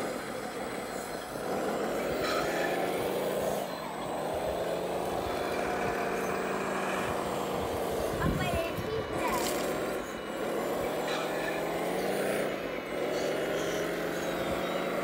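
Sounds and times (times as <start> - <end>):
wheel loader engine drone: 0.0 - 15.0.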